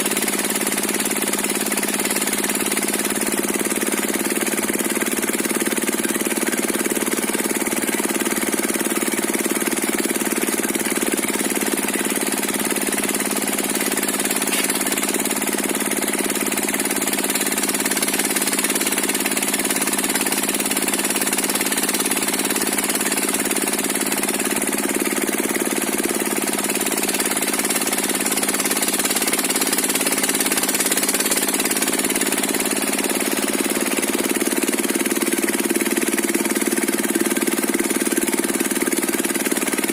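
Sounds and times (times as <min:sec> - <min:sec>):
diesel engine driving circular saw: 0:00.0 - 0:39.9.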